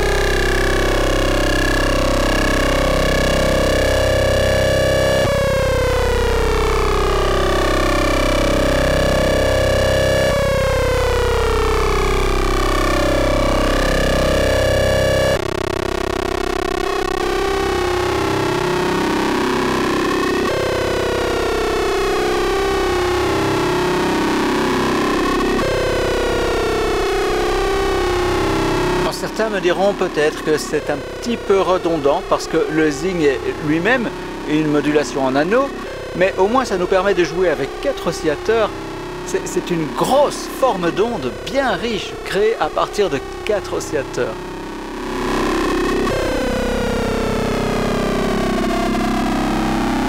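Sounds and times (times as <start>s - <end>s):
synthesizer tone with gliding partials: 0.0s - 50.0s.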